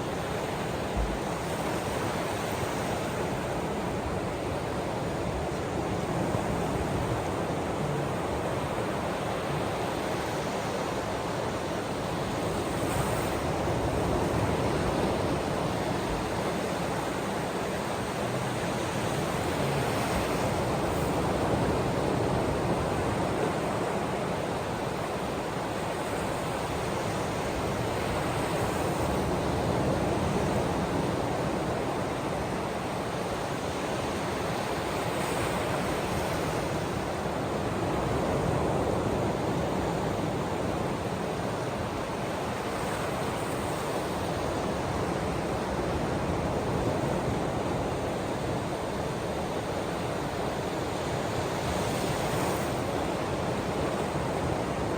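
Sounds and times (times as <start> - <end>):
ocean waves washing ashore: 0.0 - 54.9.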